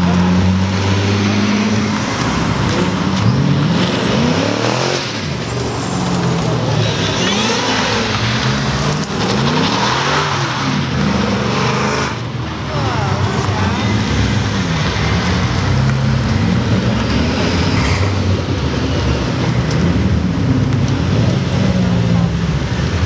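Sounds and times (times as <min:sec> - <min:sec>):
cars accelerating past: 0:00.0 - 0:23.0
continuous engine rumble: 0:01.5 - 0:23.0.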